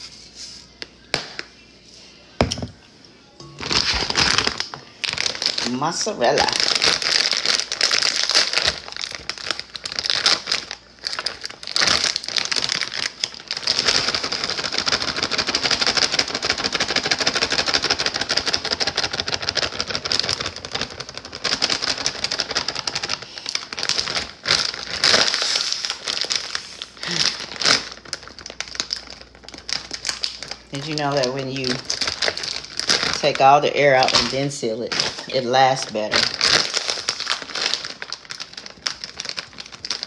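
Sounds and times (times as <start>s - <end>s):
plastic bag crinkling: 3.4s - 40.0s.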